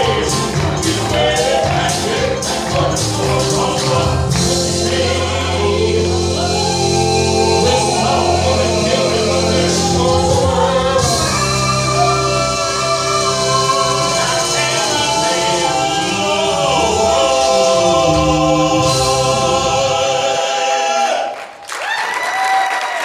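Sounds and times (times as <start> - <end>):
instrumental accompaniment: 0.0 - 20.1
vocal group singing in harmony: 0.0 - 21.6.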